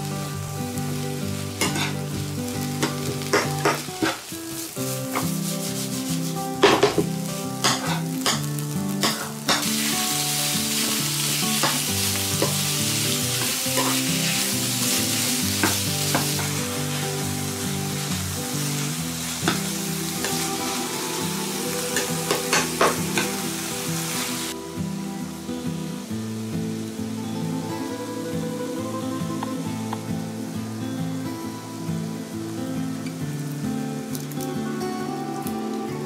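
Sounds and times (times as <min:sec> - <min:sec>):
meat and onions sizzling in a pan: 0:00.0 - 0:36.0.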